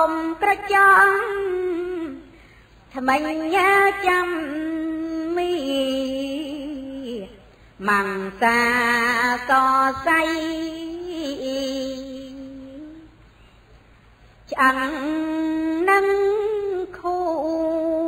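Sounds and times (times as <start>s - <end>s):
woman chanting: 0.0s - 13.2s, 14.5s - 18.0s.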